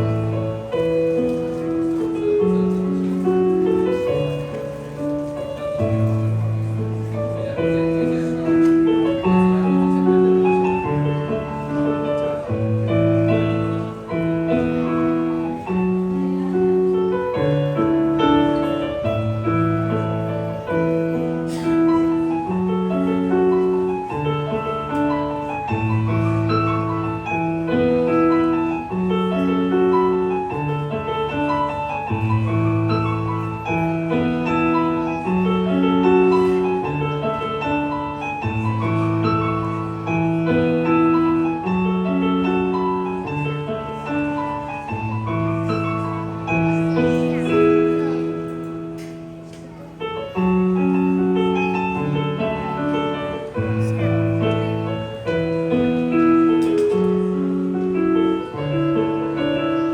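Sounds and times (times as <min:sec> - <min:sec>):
slow solo piano piece: 0:00.0 - 0:59.9.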